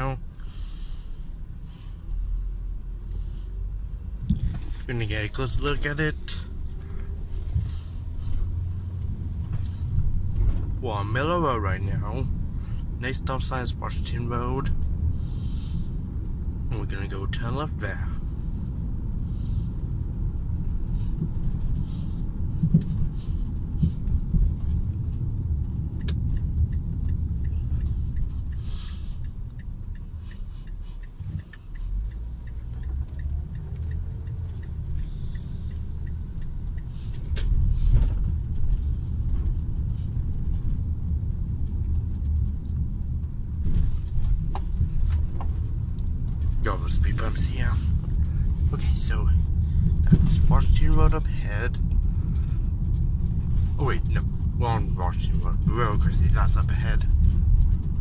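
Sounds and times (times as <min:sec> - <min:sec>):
road rumble in car cabin: 0:00.0 - 0:58.0
turn signal ticking: 0:00.0 - 0:58.0.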